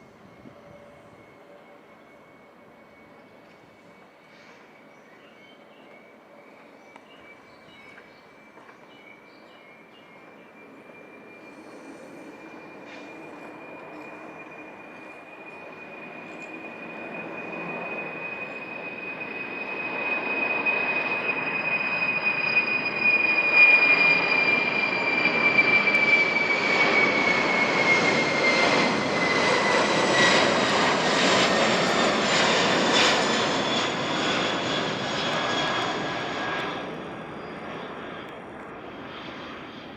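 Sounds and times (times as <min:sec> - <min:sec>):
jet engines passing by: 0:00.0 - 0:39.9.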